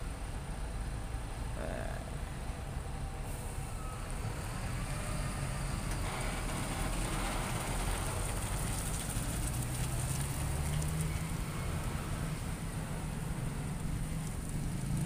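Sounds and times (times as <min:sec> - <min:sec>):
diesel truck engine: 0:00.0 - 0:15.0
road and trailer rumble: 0:00.0 - 0:15.0.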